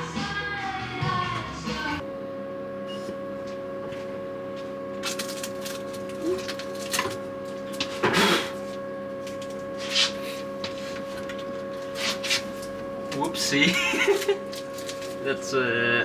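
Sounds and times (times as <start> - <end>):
laser cutter electrical hum: 2.0 - 16.0.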